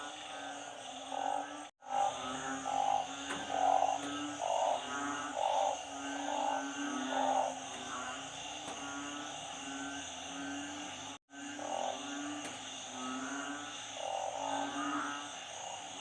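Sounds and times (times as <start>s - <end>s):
frog calling loudly: 0.0s - 15.9s
high-pitched frog chorus: 0.0s - 16.0s.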